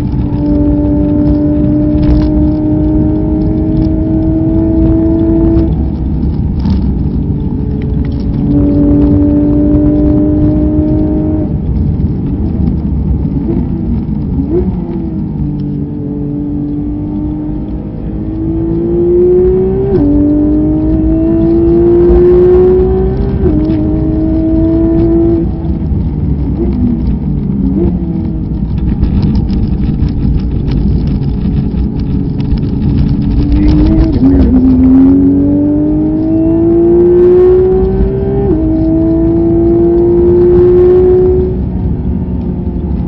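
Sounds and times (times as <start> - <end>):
race car engine revving: 0.0 - 43.0
road and wind noise: 0.0 - 43.0.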